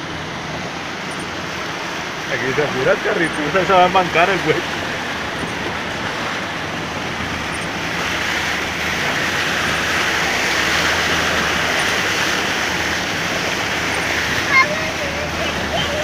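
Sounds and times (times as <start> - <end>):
tyres driving through floodwater: 0.0 - 16.0.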